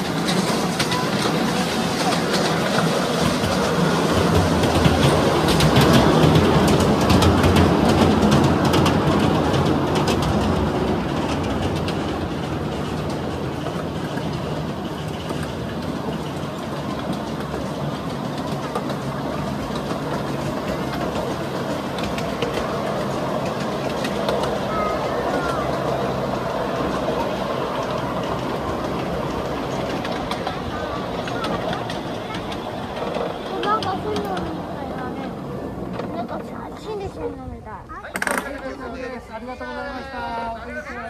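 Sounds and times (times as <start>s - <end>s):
miniature train wheels rattling on rails: 0.0s - 41.0s.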